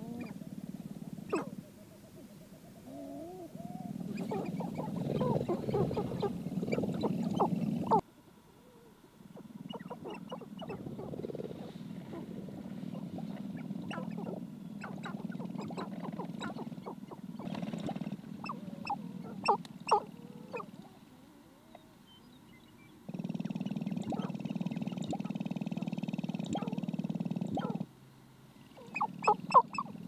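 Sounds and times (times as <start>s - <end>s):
grouse clucks and chirps: 0.0s - 8.0s, 8.6s - 21.0s, 22.9s - 27.9s, 28.6s - 30.0s
steady low hum: 0.0s - 30.0s.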